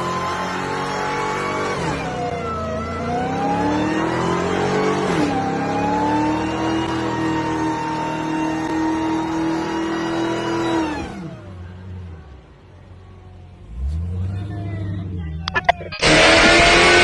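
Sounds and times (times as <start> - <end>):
car engine running hard: 0.0 - 17.0.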